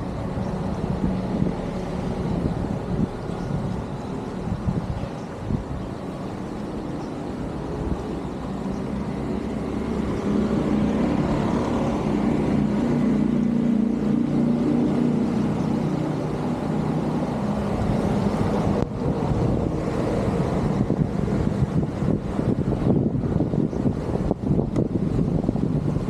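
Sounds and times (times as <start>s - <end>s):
rushing noise: 0.0s - 26.0s.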